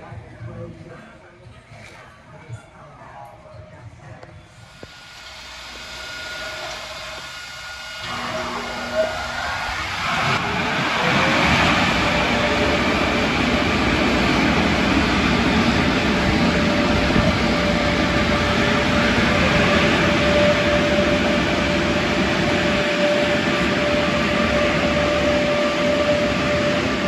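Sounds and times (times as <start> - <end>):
machinery whine: 4.4 - 27.0
car wash machinery rushing: 4.7 - 27.0.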